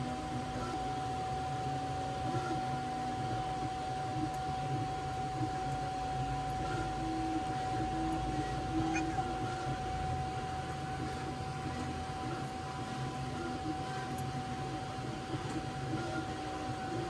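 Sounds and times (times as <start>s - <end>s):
printer fans humming and whining: 0.0s - 17.0s.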